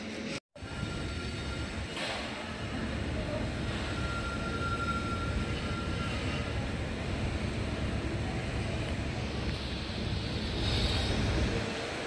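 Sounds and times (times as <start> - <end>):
railway platform rumble and hiss: 0.0 - 12.0
faint high whine: 0.1 - 12.0.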